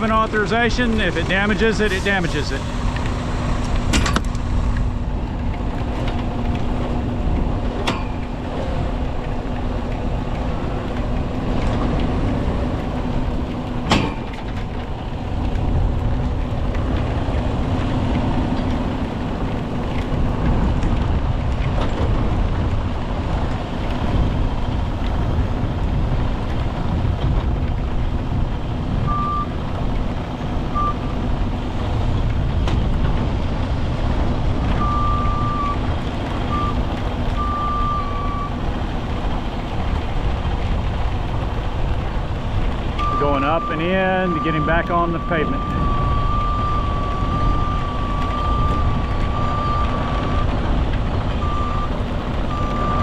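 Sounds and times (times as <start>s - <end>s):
diesel engine under load: 0.0s - 53.0s.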